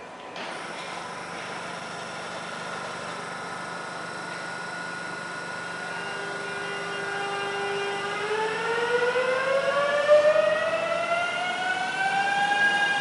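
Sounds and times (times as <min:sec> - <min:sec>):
electric train motors whining: 0:00.0 - 0:13.0.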